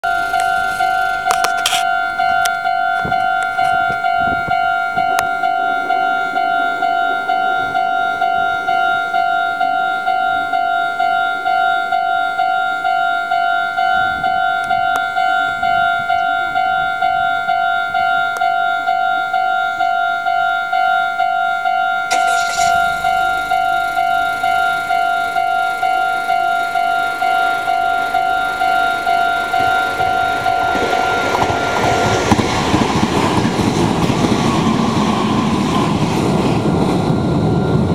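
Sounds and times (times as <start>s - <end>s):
approaching train rumble: 0.0s - 19.0s, 22.0s - 37.9s
level crossing bell ringing: 0.0s - 32.8s.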